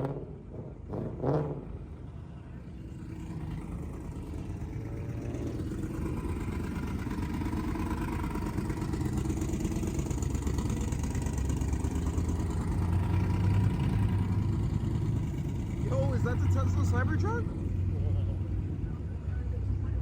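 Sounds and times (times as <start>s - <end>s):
car engines driving by: 0.0s - 20.0s.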